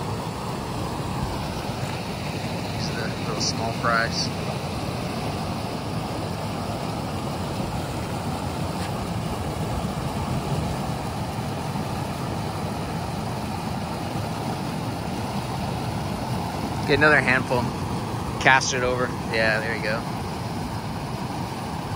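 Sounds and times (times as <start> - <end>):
water rushing through channel: 0.0 - 21.9.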